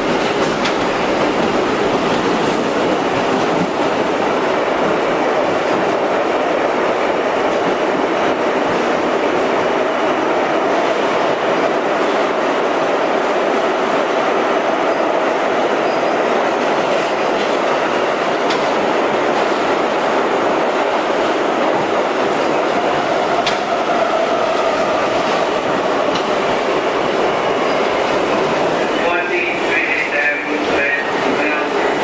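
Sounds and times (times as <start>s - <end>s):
subway wheels rumbling on rails: 0.0s - 32.0s.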